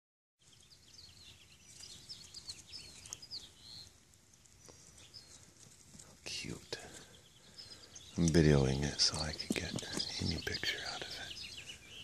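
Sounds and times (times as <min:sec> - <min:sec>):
faint bird chirping: 0:00.4 - 0:12.0
low background hiss: 0:00.5 - 0:12.0.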